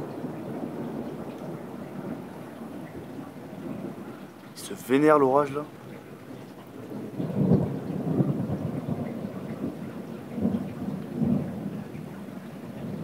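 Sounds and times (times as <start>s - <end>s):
rolling thunder: 0.0s - 13.0s
steady rain: 0.0s - 13.0s.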